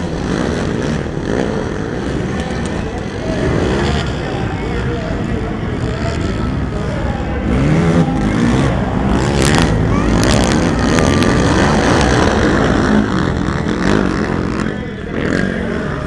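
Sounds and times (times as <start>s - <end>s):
atv engines revving: 0.0s - 16.0s.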